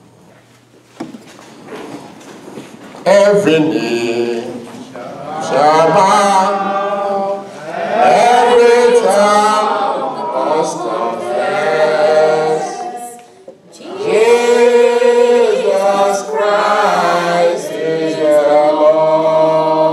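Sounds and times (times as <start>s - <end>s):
voices singing a hymn unaccompanied: 3.1s - 19.9s.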